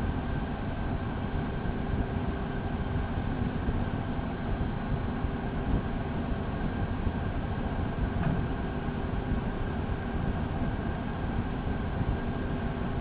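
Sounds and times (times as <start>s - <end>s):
faint steady whine: 0.0s - 13.0s
jet engines low rumble: 0.0s - 13.0s.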